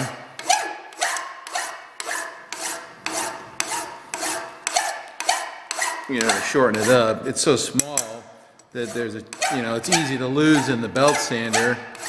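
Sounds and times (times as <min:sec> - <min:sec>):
hand file rasping on steel: 0:00.0 - 0:08.1, 0:08.7 - 0:12.0.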